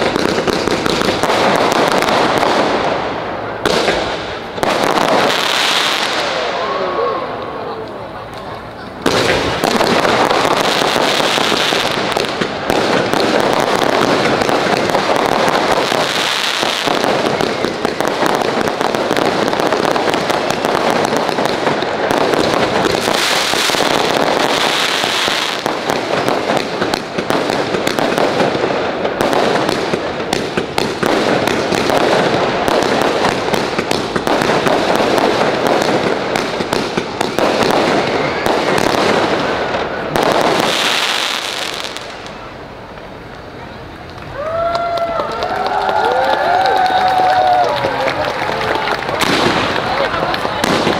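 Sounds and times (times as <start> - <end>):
fireworks bursting: 0.0 - 44.6, 45.4 - 50.9.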